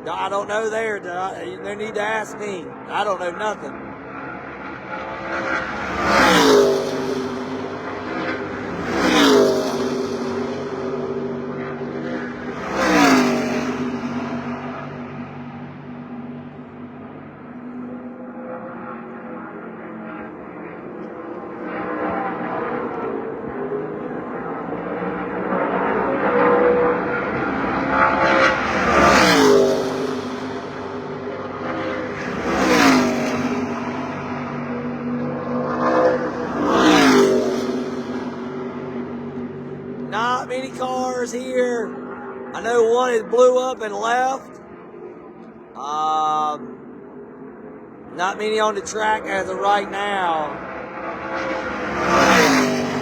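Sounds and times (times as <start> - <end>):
race truck engines passing: 0.0 - 53.0.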